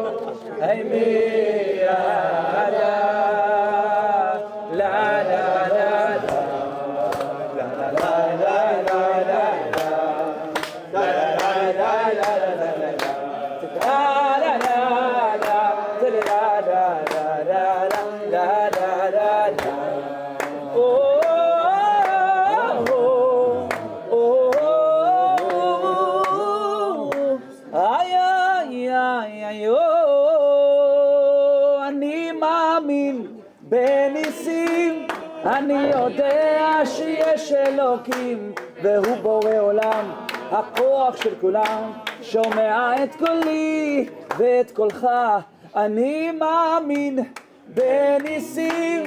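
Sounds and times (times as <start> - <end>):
man singing unaccompanied: 0.0 - 49.0
crowd clapping along: 1.0 - 28.8, 33.8 - 49.0.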